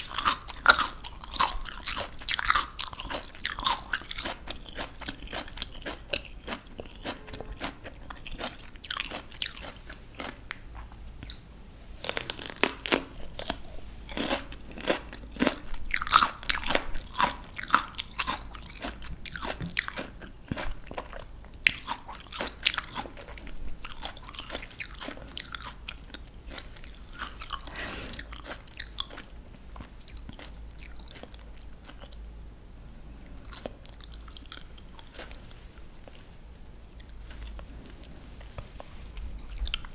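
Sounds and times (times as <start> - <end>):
crunching raw vegetables: 0.0 - 32.2, 33.1 - 39.9.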